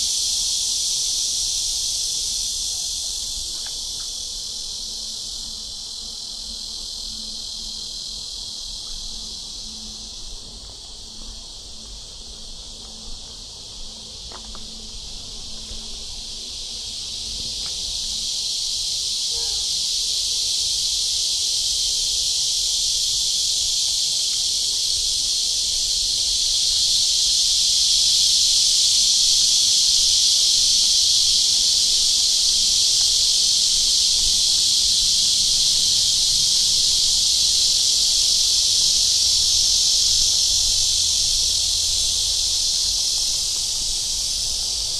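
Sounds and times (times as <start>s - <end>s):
cicadas buzzing: 0.0s - 44.9s.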